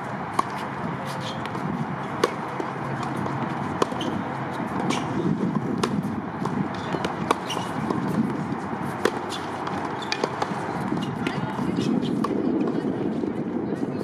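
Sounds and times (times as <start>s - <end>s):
background murmur: 0.0s - 14.0s
tennis ball struck by rackets: 0.3s - 12.8s.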